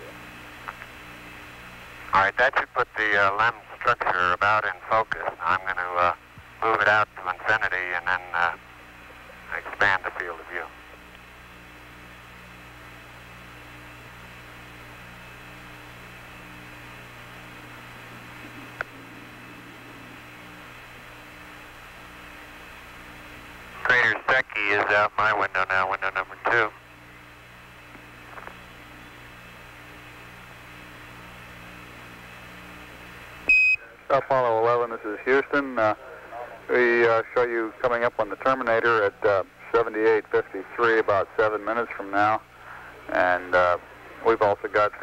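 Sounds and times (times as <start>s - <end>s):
radio hum with hiss: 0.0s - 45.0s.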